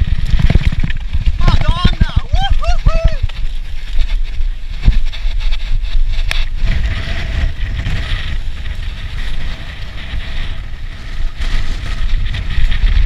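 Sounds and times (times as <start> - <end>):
tyres rolling over stone trail: 0.0 - 13.0
wind buffeting microphone: 0.0 - 13.0.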